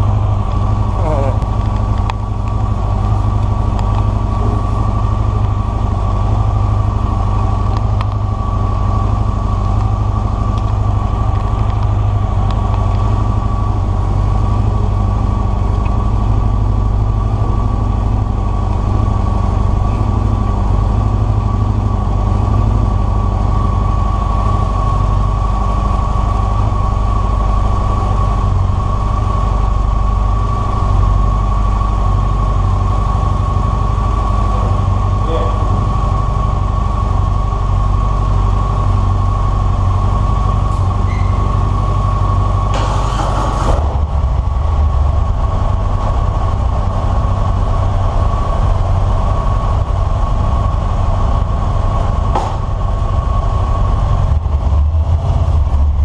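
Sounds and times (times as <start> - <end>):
motorcycle engines idling: 0.0 - 56.0.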